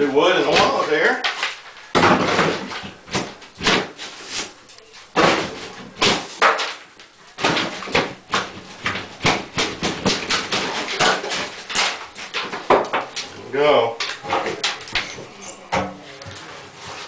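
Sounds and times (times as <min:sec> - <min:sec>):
drywall cracking and crunching: 0:00.3 - 0:17.0.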